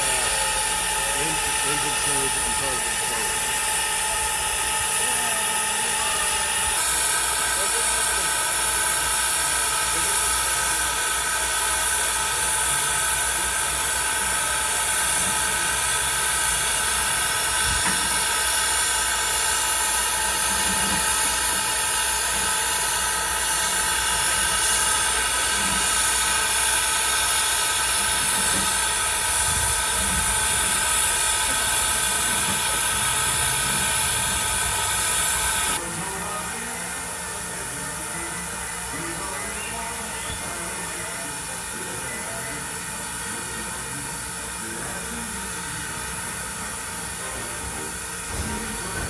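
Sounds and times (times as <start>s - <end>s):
steam locomotive hissing: 0.0s - 49.0s.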